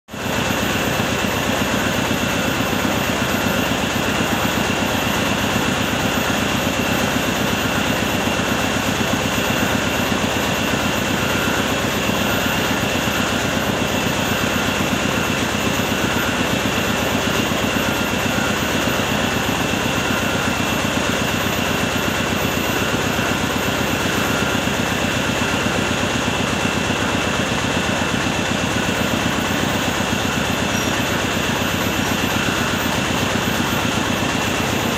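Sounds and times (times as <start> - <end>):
rice mill engine running: 0.1 - 34.9
steady high whine: 0.1 - 34.9.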